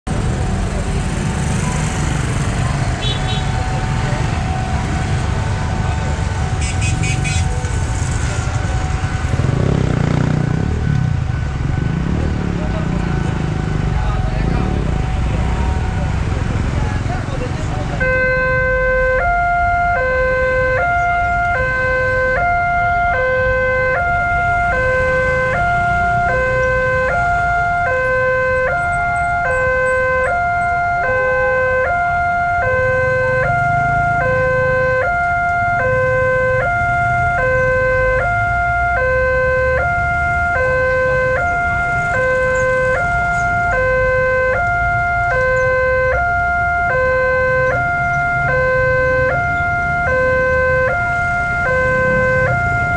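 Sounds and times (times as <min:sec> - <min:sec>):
low rumble of road traffic: 0:00.0 - 0:52.9.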